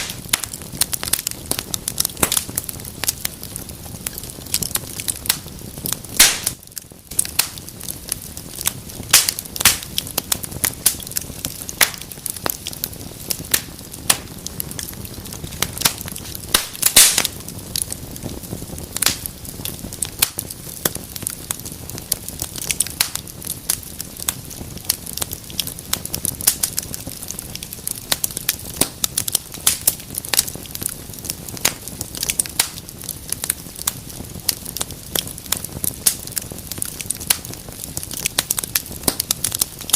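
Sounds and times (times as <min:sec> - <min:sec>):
low rush of flame: 0:00.0 - 0:39.9
wood fire crackling and popping: 0:00.0 - 0:39.9.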